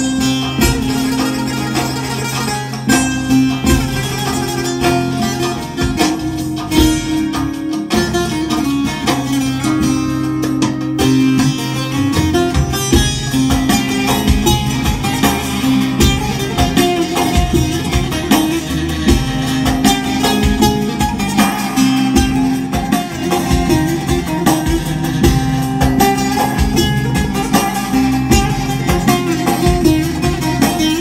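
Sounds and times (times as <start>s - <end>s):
long-necked lute plucked melody: 0.0s - 31.0s.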